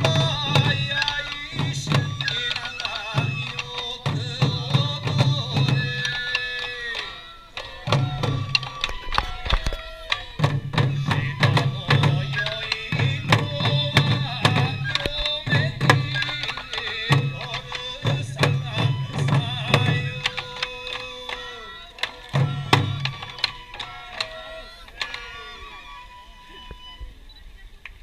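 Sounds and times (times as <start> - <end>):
drums in busy rhythm: 0.0 - 27.0
held melody notes: 0.0 - 27.9.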